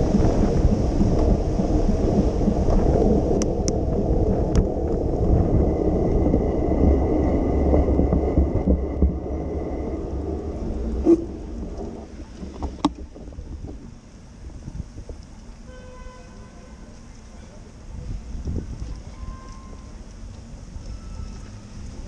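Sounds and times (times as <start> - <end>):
wind buffeting microphone: 0.0 - 15.7, 17.6 - 22.0.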